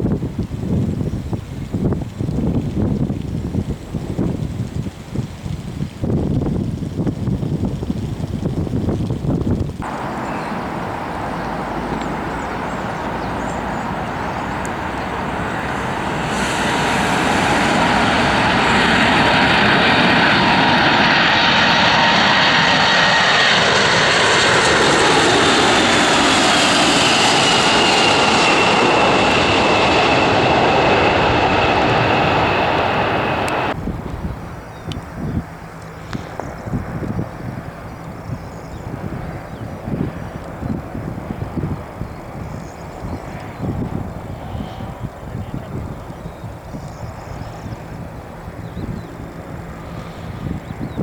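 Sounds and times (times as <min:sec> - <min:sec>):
aircraft engines roaring: 0:00.0 - 0:51.0.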